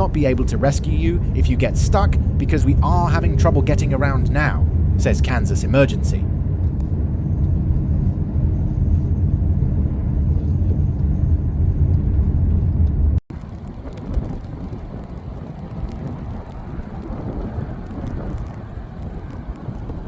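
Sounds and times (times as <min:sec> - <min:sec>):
rough rushing noise: 0:00.0 - 0:20.0
vehicle driving rumble: 0:00.0 - 0:20.0.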